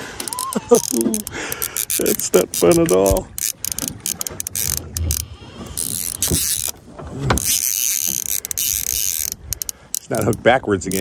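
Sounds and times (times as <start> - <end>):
fishing reel ratcheting: 0.0 - 6.8, 7.4 - 11.0.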